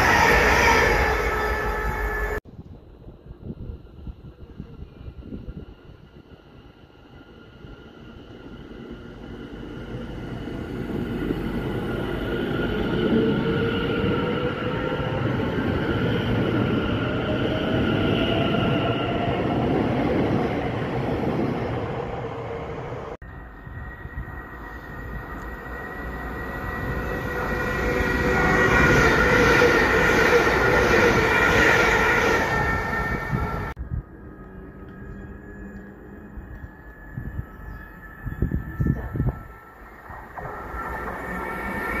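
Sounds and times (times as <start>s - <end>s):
electric train rumble: 0.0s - 42.0s.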